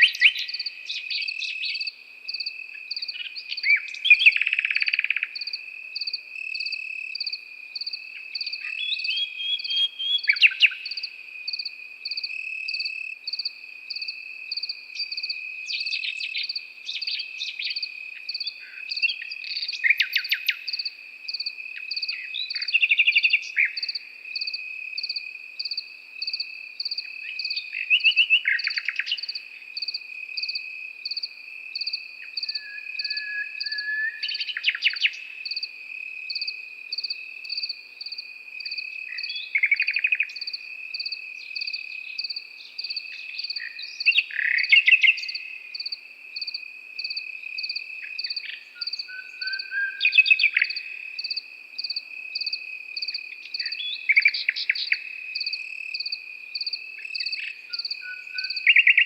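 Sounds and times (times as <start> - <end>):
crickets trilling: 0.0 - 59.0
nightingale singing: 0.0 - 59.0.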